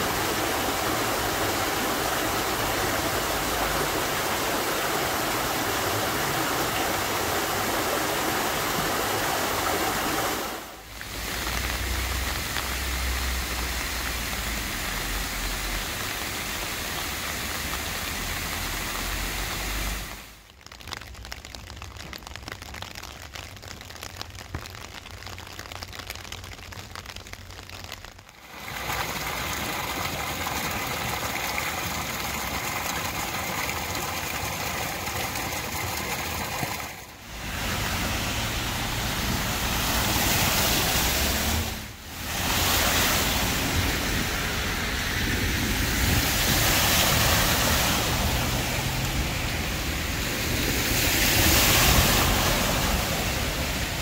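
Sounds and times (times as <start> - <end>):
water gushing from drain: 0.0 - 20.2, 28.4 - 54.0
passing traffic on flooded road: 0.0 - 20.4, 28.5 - 54.0.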